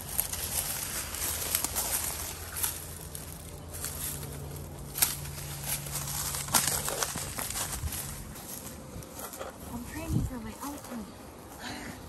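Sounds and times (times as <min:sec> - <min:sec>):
footsteps through brush: 0:00.0 - 0:12.0.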